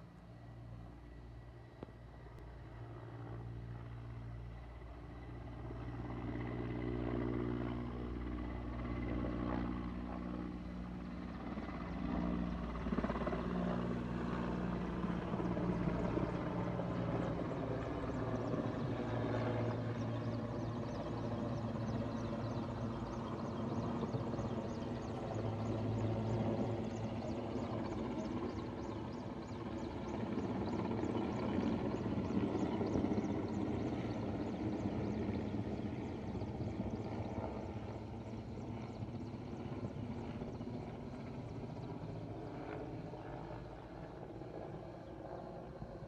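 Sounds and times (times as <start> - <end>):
helicopter engine and rotor: 0.0 - 46.0.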